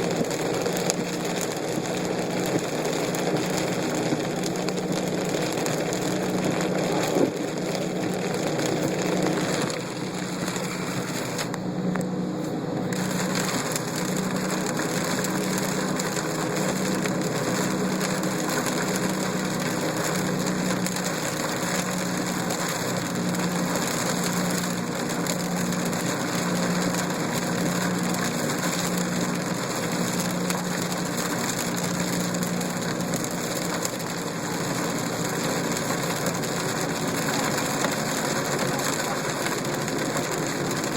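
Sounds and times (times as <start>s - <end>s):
car engine idling: 0.0s - 40.9s
rain noise: 0.0s - 40.9s.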